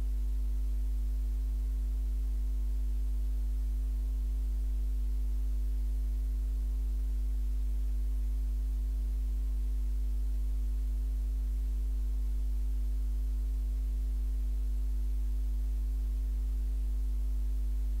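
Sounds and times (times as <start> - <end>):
faint hiss: 0.0 - 18.0
low electrical mains hum: 0.0 - 18.0.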